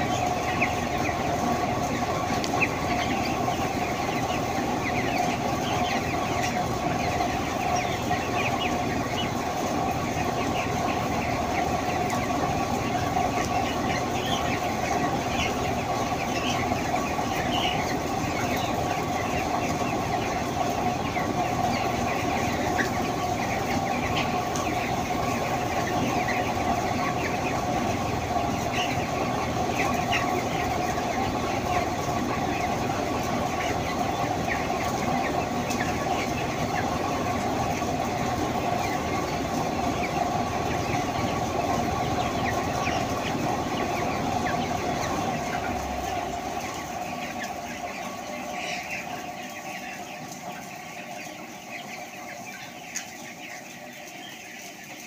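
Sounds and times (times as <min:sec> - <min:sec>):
chickens peeping and clucking: 0:00.0 - 0:55.0.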